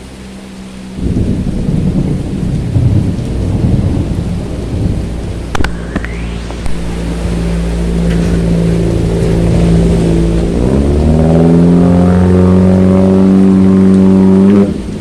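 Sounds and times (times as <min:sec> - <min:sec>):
engine running and accelerating: 0:00.0 - 0:15.0.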